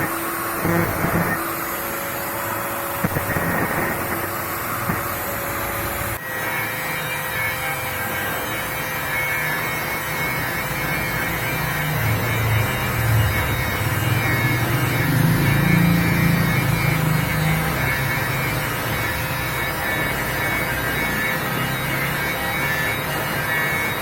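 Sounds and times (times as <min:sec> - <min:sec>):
angle grinder cutting metal: 0:00.0 - 0:24.0.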